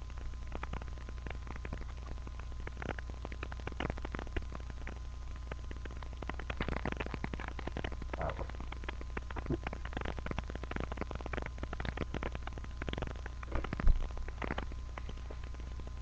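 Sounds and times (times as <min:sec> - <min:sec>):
food frying in a pan: 0:00.0 - 0:16.0
low hum: 0:00.0 - 0:16.0.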